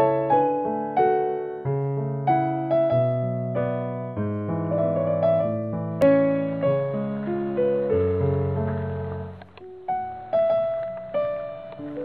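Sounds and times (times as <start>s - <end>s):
slow solo piano melody: 0.0s - 12.0s.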